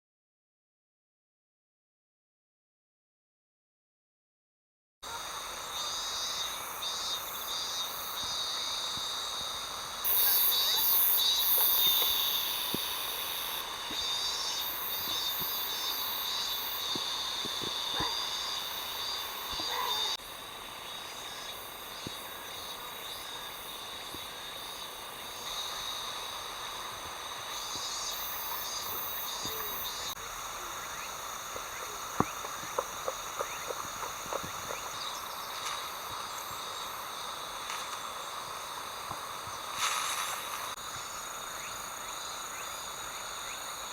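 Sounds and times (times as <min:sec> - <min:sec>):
crickets and insects trilling: 0:05.0 - 0:43.9.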